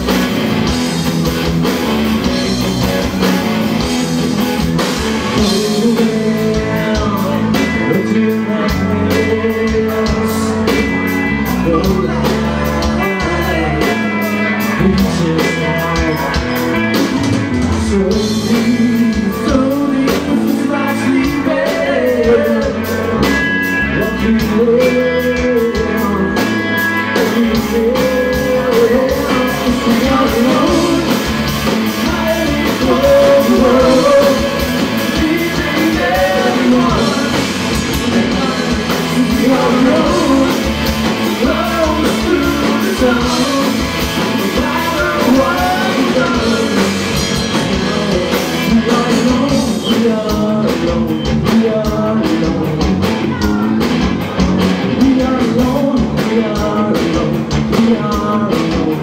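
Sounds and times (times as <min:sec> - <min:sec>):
drums: 0:00.0 - 0:59.0
rock band playing live: 0:00.0 - 0:59.0
person singing: 0:05.2 - 0:59.0.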